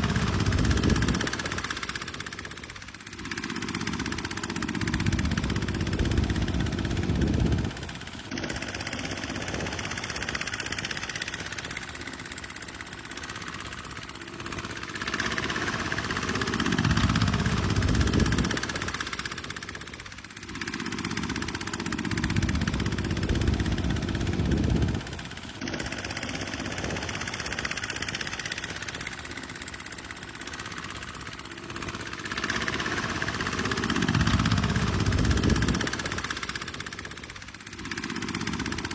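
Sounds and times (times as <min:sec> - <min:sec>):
tractor engine rumbling under load: 0:00.0 - 0:38.9.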